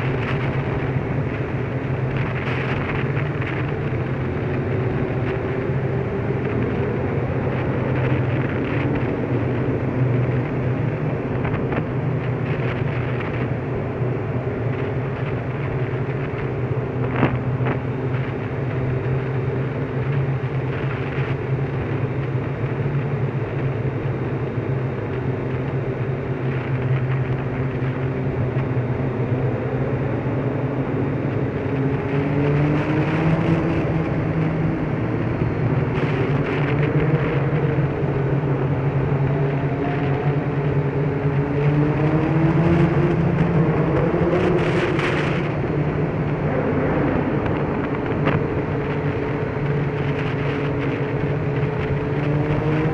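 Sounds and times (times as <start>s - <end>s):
road and wind noise: 0.0s - 52.9s.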